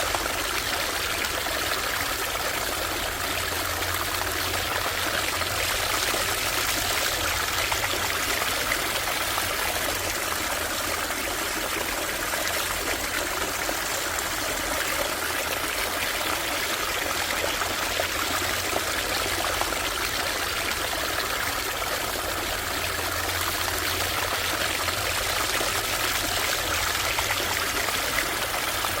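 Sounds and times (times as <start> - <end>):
stream trickling over stones: 0.0 - 29.0.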